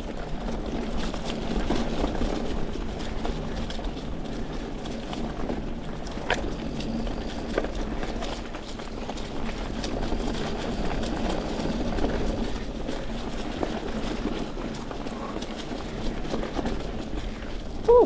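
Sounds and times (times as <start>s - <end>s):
bike clicks and rattles: 0.0s - 17.8s
bike tyres on dirt trail: 0.0s - 18.0s.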